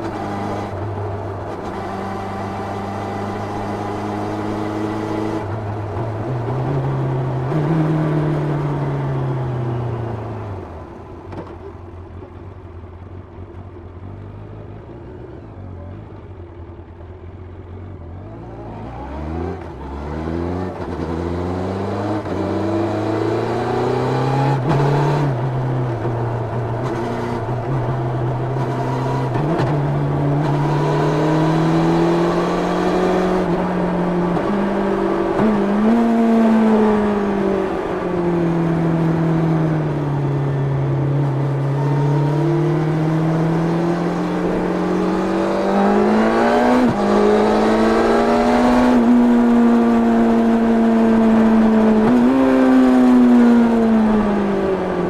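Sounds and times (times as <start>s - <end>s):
motorcycle engine revving: 0.0s - 9.9s, 17.7s - 55.0s.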